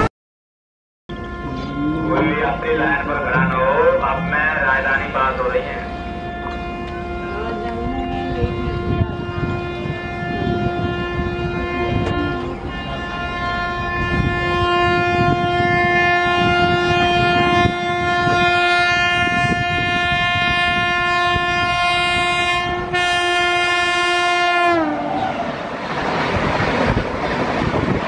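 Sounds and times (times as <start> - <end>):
train air horn blast: 1.1 - 3.2, 3.9 - 25.6
wheels rumbling on rails: 1.1 - 23.0, 24.8 - 28.0.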